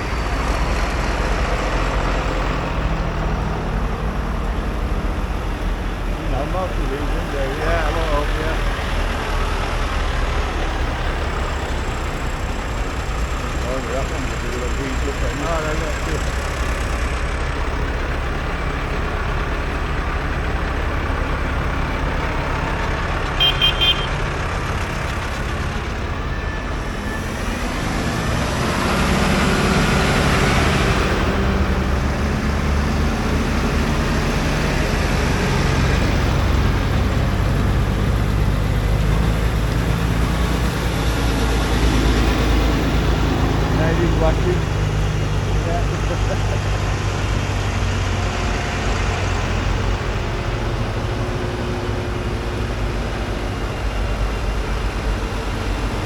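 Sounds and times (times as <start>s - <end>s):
tractor engines passing: 0.0s - 56.0s.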